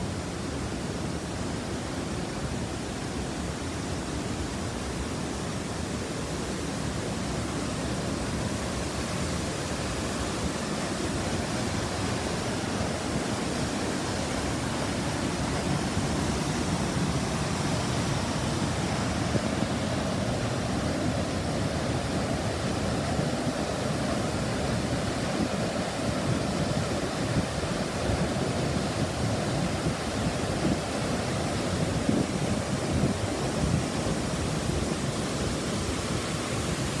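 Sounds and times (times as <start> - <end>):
waterfall rushing: 0.0 - 37.0
white water churning: 0.0 - 37.0.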